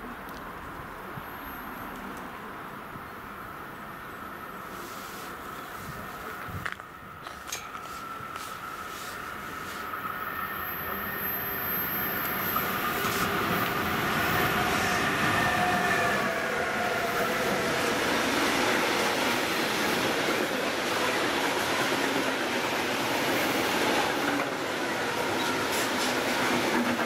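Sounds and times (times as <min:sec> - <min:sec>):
electric locomotives passing: 0:00.7 - 0:27.0
train wheels on rails: 0:04.7 - 0:27.0.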